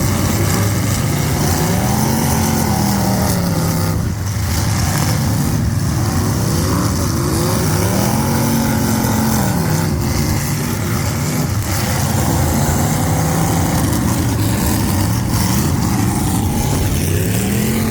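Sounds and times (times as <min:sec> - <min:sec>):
diesel truck engine revving: 0:00.0 - 0:17.9.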